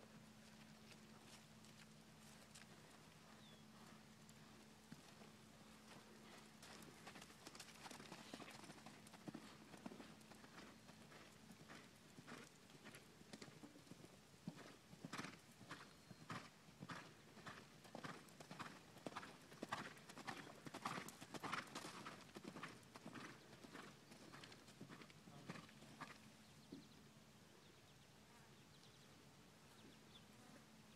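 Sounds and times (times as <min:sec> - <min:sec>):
horse hoofbeats on soft dirt: 0:00.3 - 0:26.2.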